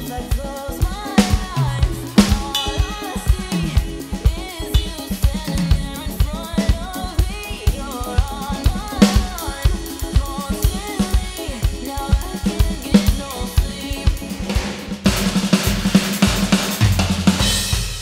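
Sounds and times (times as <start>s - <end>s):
dance music track: 0.0s - 15.3s
electronic drum kit groove: 0.0s - 18.0s.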